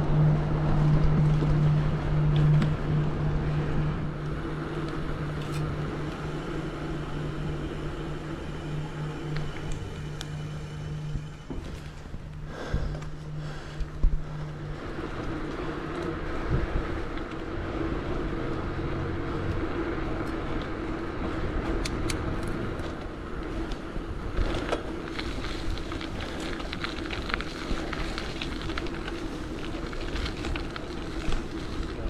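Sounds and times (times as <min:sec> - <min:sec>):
constant hum: 0:00.0 - 0:32.0
road and traffic noise: 0:00.0 - 0:32.0.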